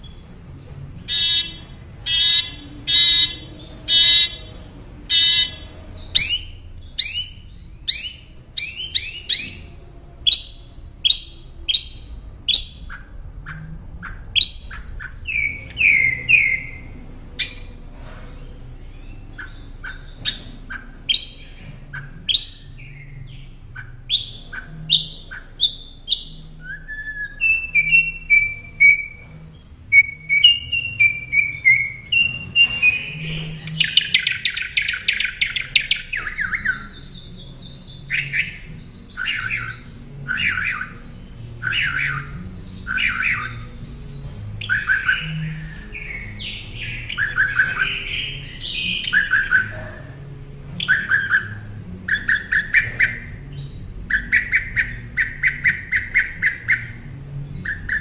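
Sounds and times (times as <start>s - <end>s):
mockingbird whistled song: 0.0s - 17.8s, 18.4s - 50.2s, 50.8s - 58.0s
mockingbird harsh calls: 0.0s - 58.0s
rapid high bird chirps: 0.0s - 58.0s.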